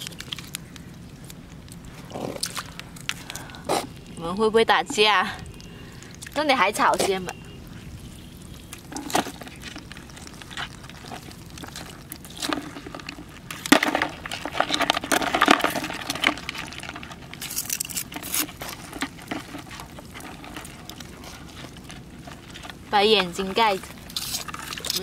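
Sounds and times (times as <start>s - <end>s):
wet seaweed rustling: 0.0s - 25.0s.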